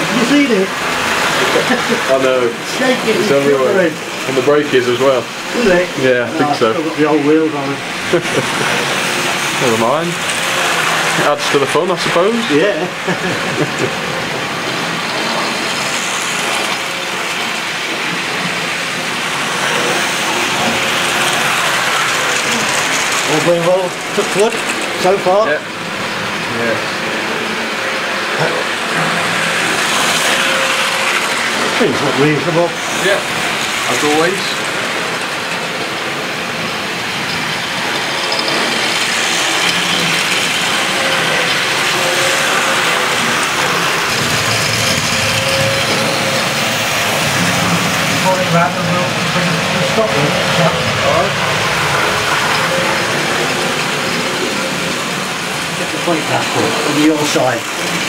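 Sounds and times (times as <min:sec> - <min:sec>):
model trains rattling on metal track: 0:00.0 - 0:58.0
small electric motors: 0:00.0 - 0:58.0.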